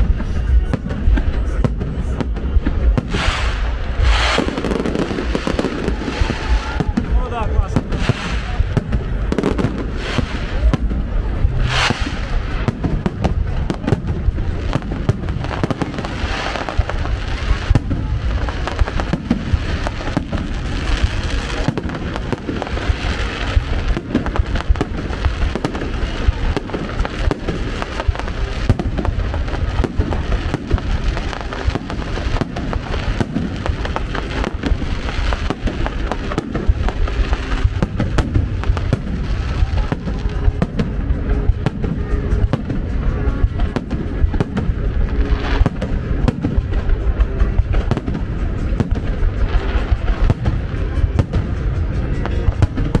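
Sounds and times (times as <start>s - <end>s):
fireworks bangs and crackling: 0.0s - 53.0s.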